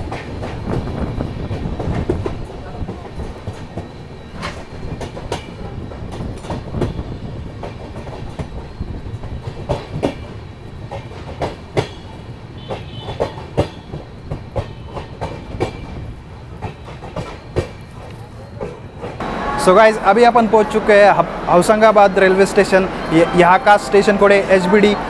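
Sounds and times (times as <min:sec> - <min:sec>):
train coach rumbling on rails: 0:00.0 - 0:25.0.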